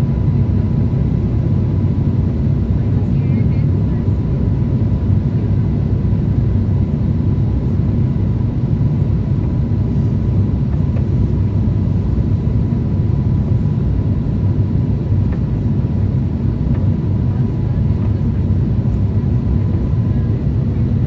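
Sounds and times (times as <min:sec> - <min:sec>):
airliner engines rumbling: 0:00.0 - 0:21.0.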